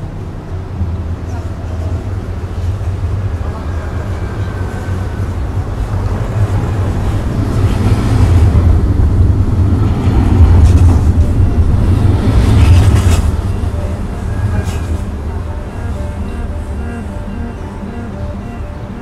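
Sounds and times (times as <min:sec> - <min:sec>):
passing vehicle rumble: 0:00.0 - 0:19.0.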